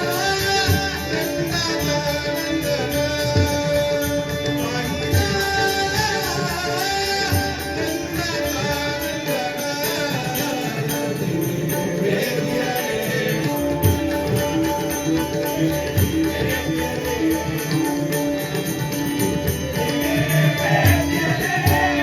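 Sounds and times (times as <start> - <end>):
percussion beats: 0.0 - 22.0
person singing devotional song: 0.0 - 22.0.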